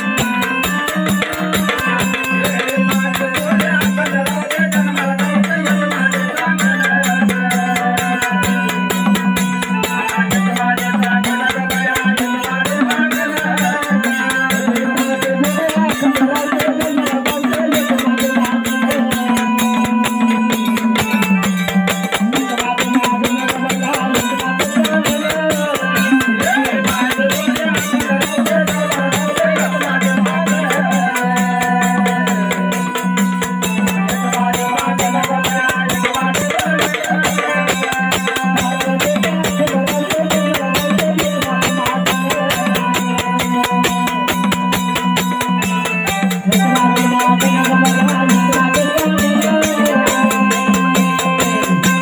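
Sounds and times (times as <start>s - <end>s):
fast drum beats: 0.0s - 52.0s
wavering melody line: 0.0s - 52.0s.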